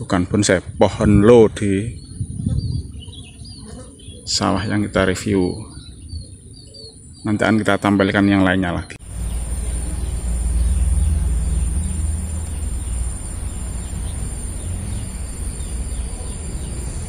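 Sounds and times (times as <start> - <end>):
low microphone rumble: 0.0 - 8.2, 9.0 - 17.0
insects trilling: 0.1 - 17.0.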